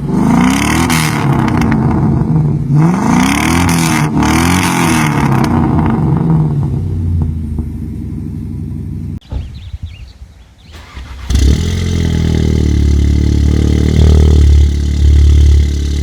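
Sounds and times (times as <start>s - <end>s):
car engine revving and idling: 0.0s - 9.2s, 10.4s - 16.0s.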